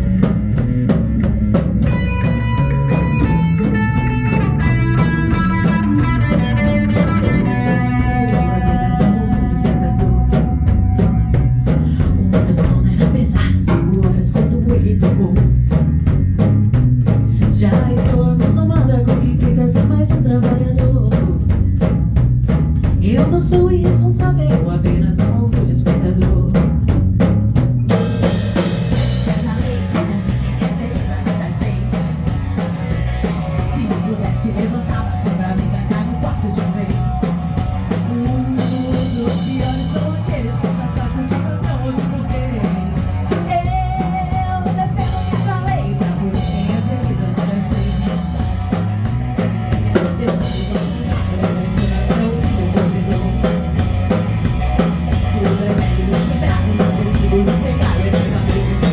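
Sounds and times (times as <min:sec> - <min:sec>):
bass guitar: 0:00.0 - 0:58.9
drum kit beat: 0:00.0 - 0:58.9
electric guitar: 0:00.0 - 0:58.9.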